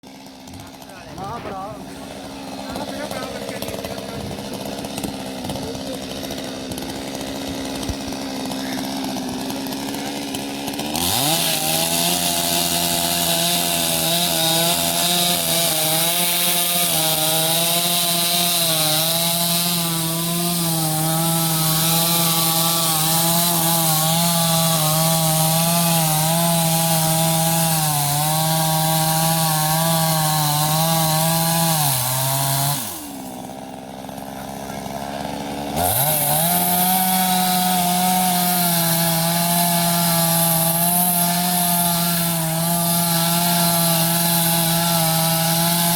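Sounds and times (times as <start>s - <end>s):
chainsaw cutting into tree: 0.0s - 45.9s
chainsaw idling and revving: 0.0s - 45.9s.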